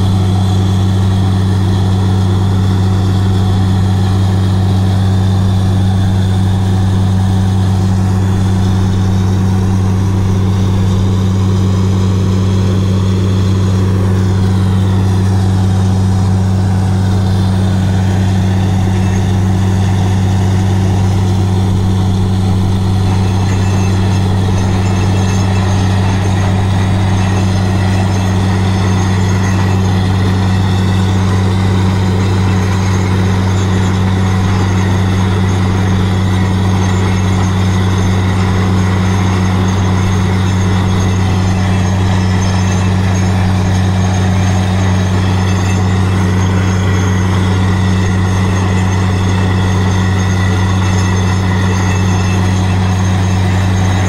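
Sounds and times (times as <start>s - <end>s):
drilling rig droning: 0.0s - 54.0s.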